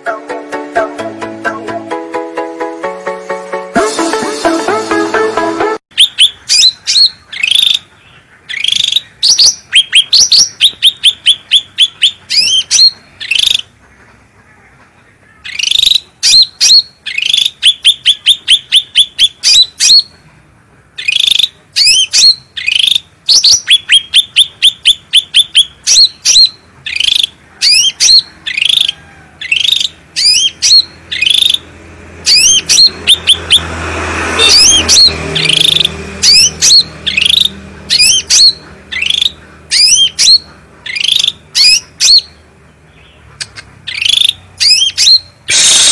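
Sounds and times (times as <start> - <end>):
bird chirping song: 5.9 - 45.9.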